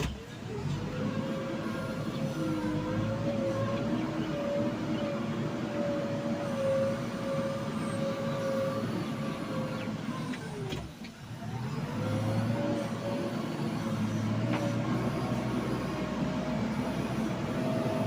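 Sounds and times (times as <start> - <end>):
diesel engine and hydraulics whining: 0.0 - 18.0.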